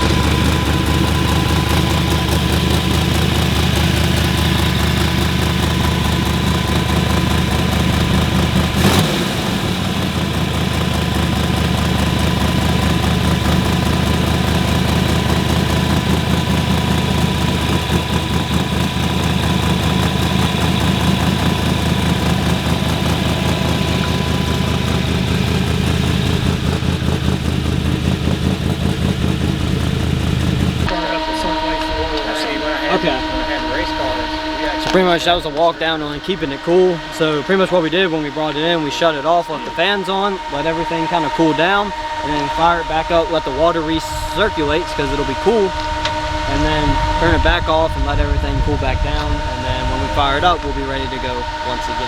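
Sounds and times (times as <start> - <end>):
truck engine idling: 0.0 - 52.0.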